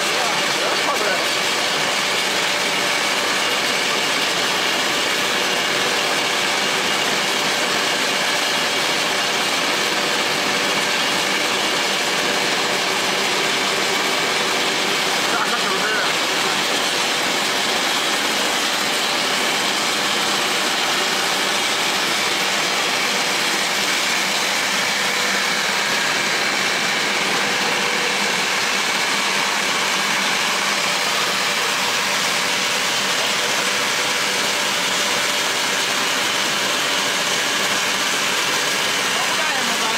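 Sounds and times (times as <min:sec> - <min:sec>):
machine whirring: 0:00.0 - 0:39.9.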